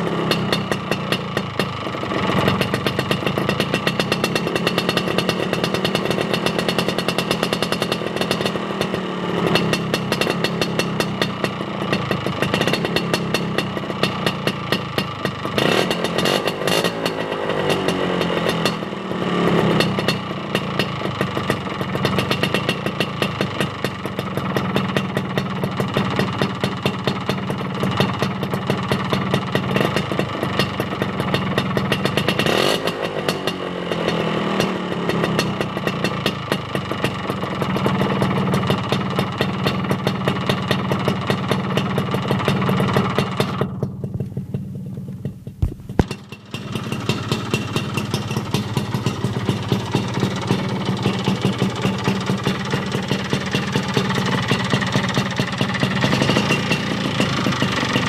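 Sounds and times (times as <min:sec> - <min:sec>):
two-stroke scooter engine running: 0:00.0 - 0:58.0.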